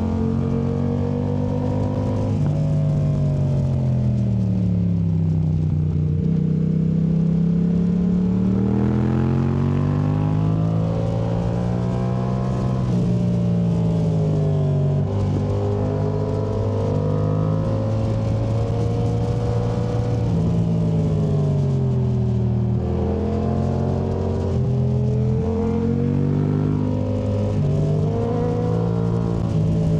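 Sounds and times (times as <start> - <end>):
motorcycle engine revving: 0.0 - 4.2, 5.5 - 29.9.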